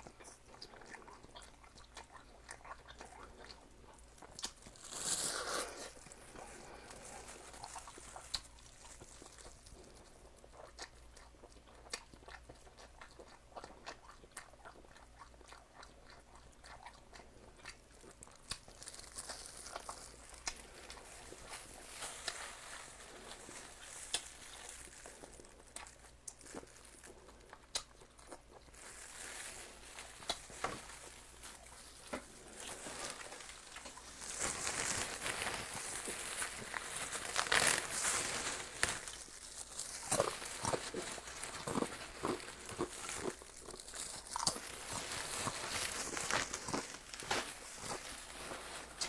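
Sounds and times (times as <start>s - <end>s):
crunching eating sounds: 0.0s - 49.0s.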